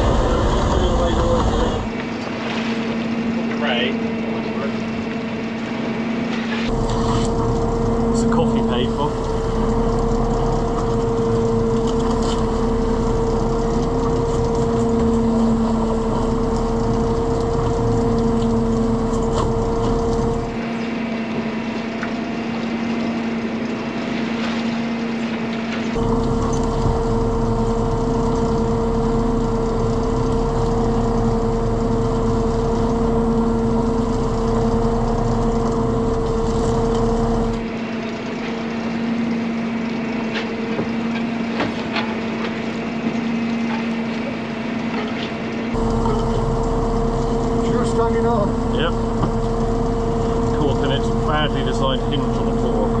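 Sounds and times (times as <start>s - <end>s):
boat engine and machinery humming: 0.0s - 53.0s.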